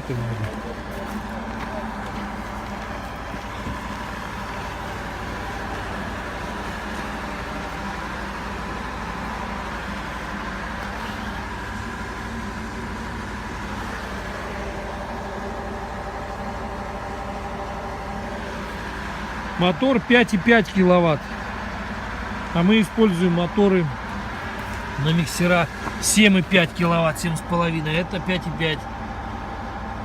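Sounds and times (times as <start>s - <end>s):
drilling rig machinery humming: 0.0s - 30.0s.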